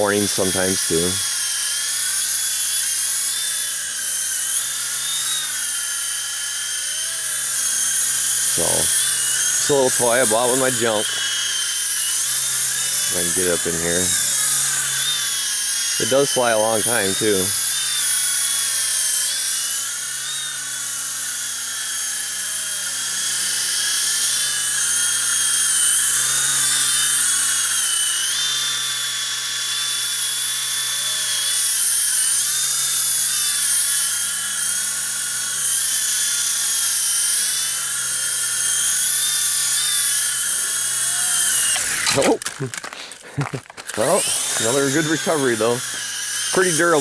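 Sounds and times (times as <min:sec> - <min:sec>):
rc helicopter motor whine: 0:00.0 - 0:47.0.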